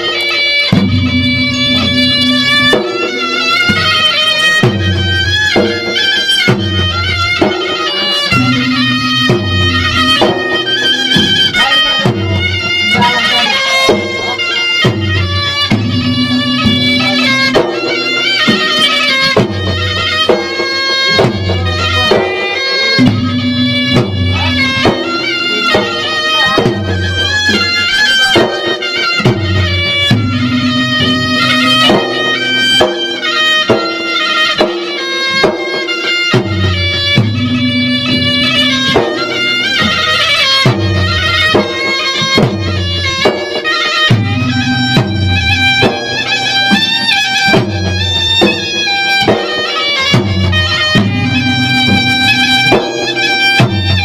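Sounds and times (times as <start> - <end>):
drums beating: 0.0 - 54.0
reedy shawm melody: 0.0 - 54.0.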